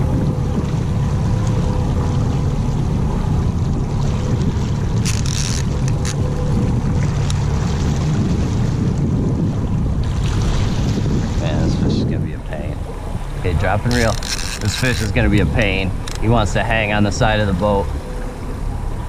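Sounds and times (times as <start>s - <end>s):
boat motor running: 0.0s - 19.0s
water noise: 0.0s - 19.0s
wind on microphone: 0.0s - 19.0s.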